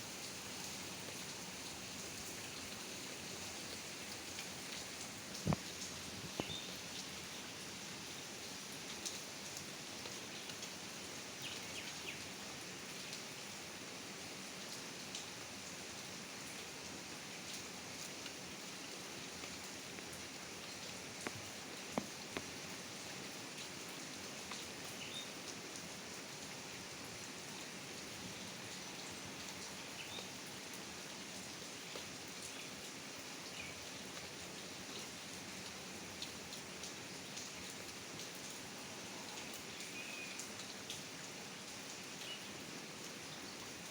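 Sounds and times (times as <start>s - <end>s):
close raindrops striking: 0.0s - 43.9s
steady rain falling: 0.0s - 43.9s.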